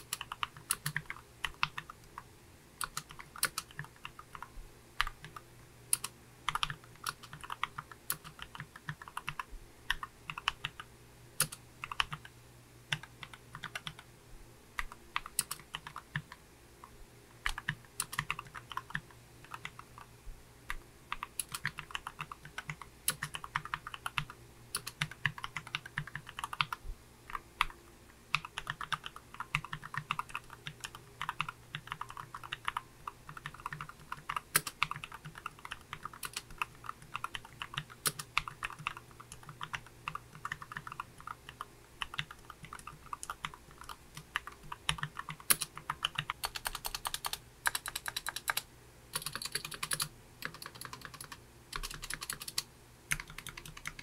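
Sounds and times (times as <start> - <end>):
mechanical keyboard typing: 0.0 - 2.2, 2.8 - 5.4, 6.0 - 12.3, 12.9 - 14.0, 14.8 - 16.4, 17.4 - 20.1, 20.7 - 54.0.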